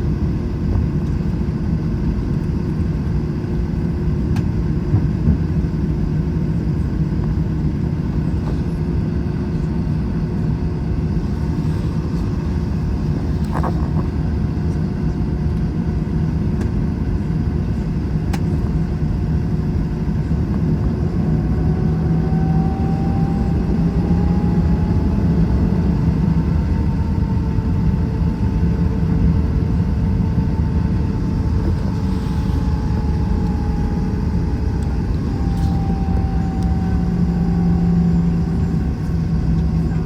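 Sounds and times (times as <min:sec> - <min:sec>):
faint engine whine: 0:00.0 - 0:40.0
jet engine cabin rumble: 0:00.0 - 0:40.0.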